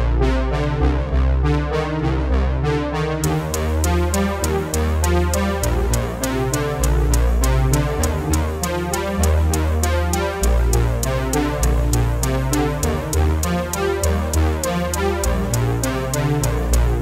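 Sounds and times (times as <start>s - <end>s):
electronic music with synth bass: 0.0s - 17.0s.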